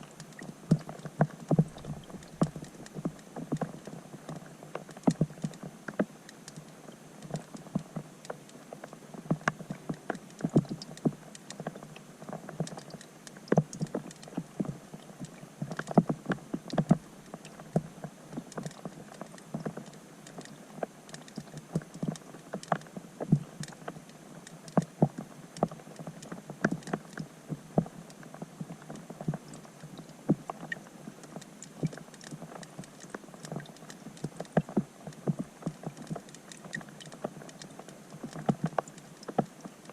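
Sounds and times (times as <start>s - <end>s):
faint steady hiss: 0.0s - 39.9s
rain plinks heard underwater: 0.0s - 39.9s.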